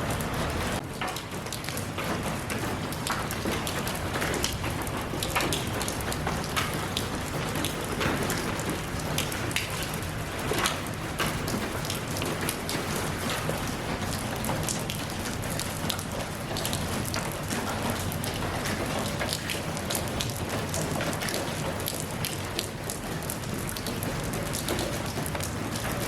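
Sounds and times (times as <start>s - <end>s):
raindrops tapping on a surface: 0.0s - 26.0s
steady rain falling: 0.0s - 26.0s.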